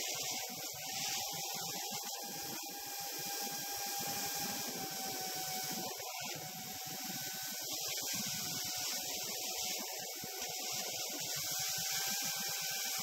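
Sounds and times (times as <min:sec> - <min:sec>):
drone motors whining: 0:00.2 - 0:13.0.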